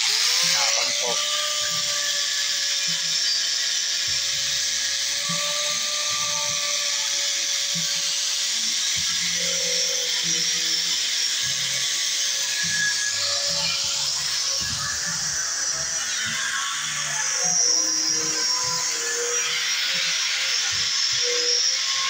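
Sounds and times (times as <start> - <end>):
power tool whining: 0.0 - 22.0.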